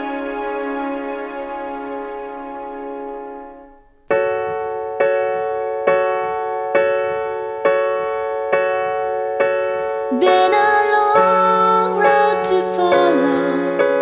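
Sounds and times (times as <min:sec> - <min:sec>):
keyboard music filling out: 0:00.0 - 0:14.0.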